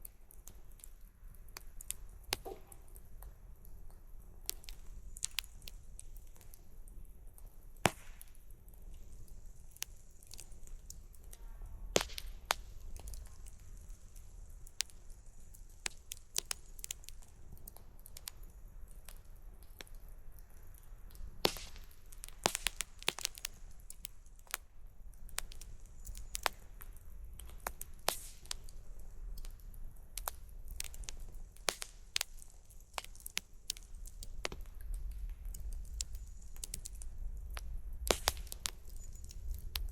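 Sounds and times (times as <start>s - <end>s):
campfire pops and snaps: 0.0s - 39.9s.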